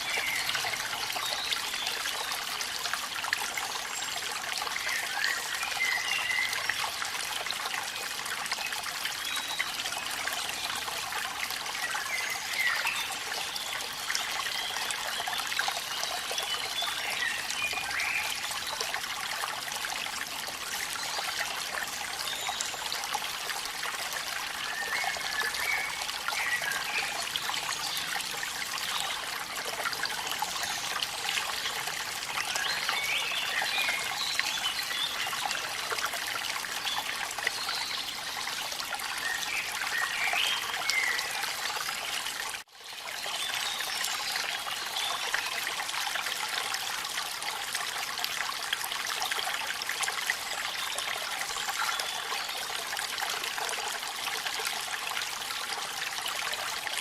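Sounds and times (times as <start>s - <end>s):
waterfall splashing and trickling: 0.0s - 57.0s.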